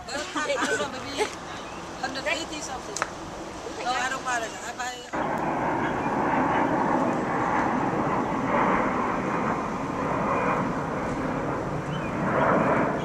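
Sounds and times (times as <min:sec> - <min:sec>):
jet engine rushing overhead: 0:00.0 - 0:13.0.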